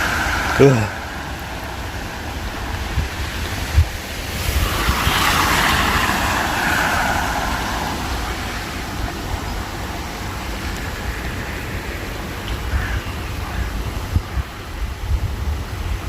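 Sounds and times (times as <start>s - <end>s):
tyre hiss on wet road: 0.0s - 16.0s.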